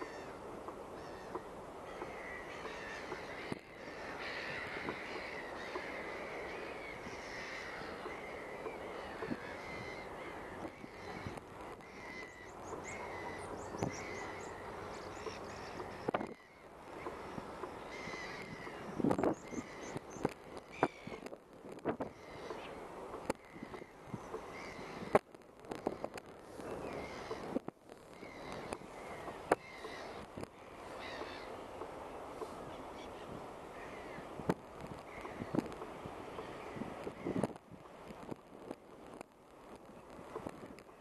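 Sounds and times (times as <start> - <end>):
gulls calling: 0.0 - 38.7
outdoor background noise: 0.0 - 41.0.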